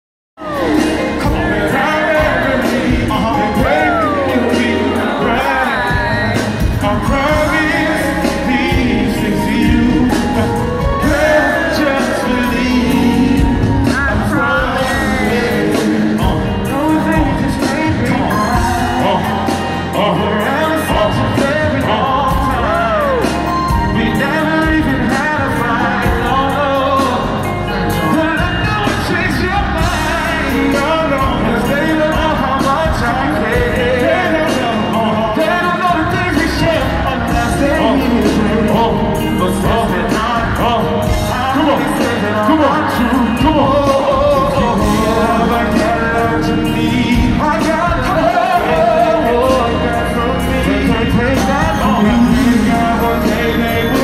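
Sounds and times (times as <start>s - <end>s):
lead singer singing: 0.4s - 54.0s
live band playing: 0.4s - 54.0s.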